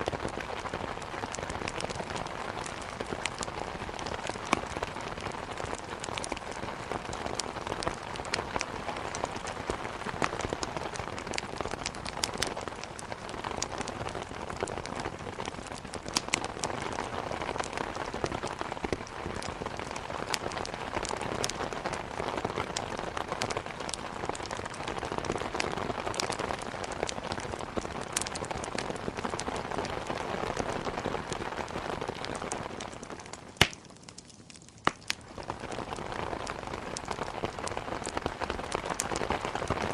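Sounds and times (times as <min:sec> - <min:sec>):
heavy rain: 0:00.0 - 0:39.9
wood fire crackling: 0:00.0 - 0:39.9.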